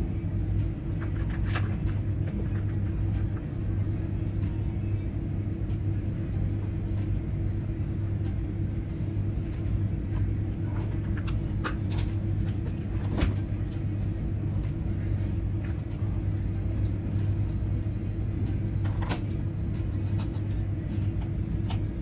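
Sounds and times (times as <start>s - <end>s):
low droning hum: 0.0s - 22.0s.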